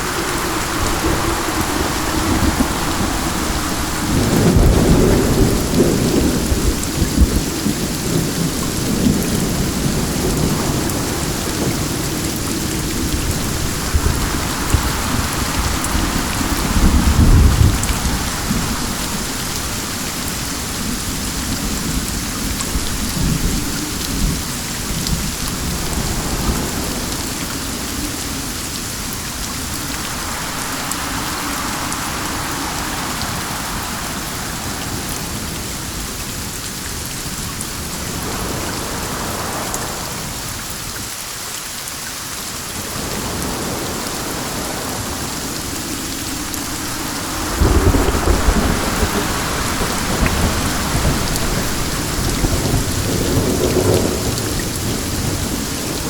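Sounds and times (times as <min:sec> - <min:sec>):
rain falling: 0:00.0 - 0:56.0
wind: 0:00.0 - 0:56.0.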